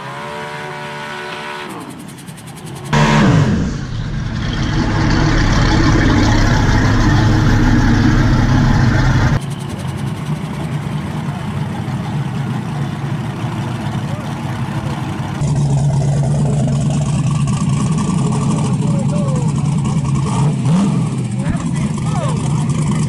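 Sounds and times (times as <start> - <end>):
race car engine running loud: 0.0 - 23.0
engine idling: 1.7 - 23.0.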